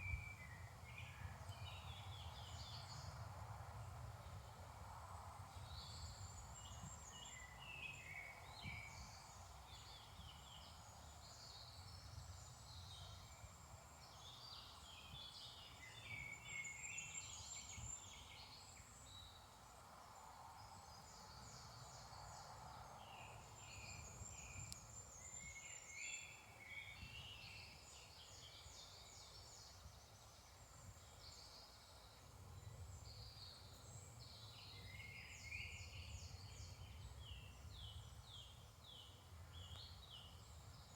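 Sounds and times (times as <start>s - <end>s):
songbirds chirping and trilling: 0.0s - 3.4s, 4.1s - 40.9s.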